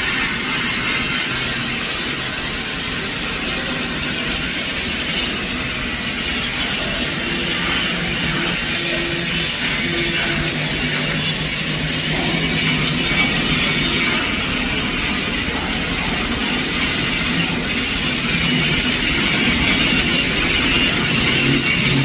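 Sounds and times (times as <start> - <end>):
welding arc hissing: 0.0 - 22.0.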